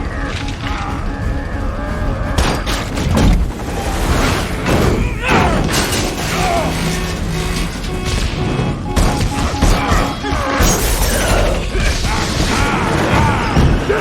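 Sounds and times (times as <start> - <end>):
dramatic score music: 0.0 - 14.0.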